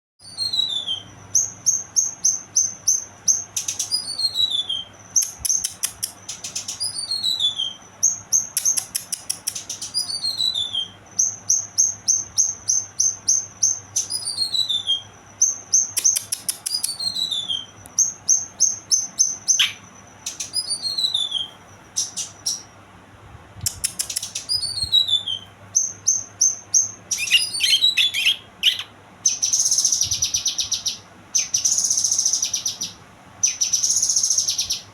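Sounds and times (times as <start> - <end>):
songbird singing: 0.2 - 22.9, 23.6 - 34.9.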